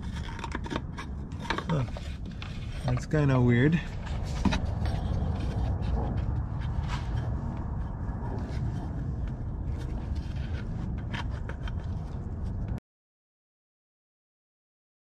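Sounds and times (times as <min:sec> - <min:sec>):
oil filter clicks and scrapes: 0:00.0 - 0:12.7
low background rumble: 0:00.0 - 0:12.8.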